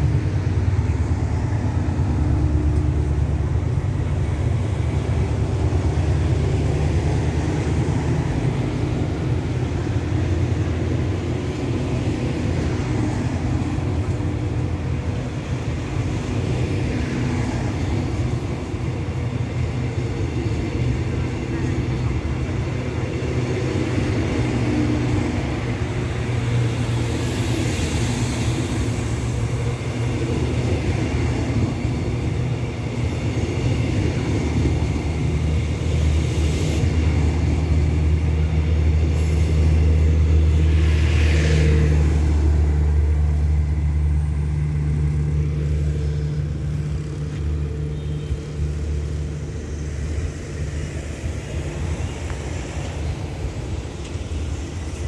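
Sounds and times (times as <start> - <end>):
train diesel engine humming: 0.0 - 55.0.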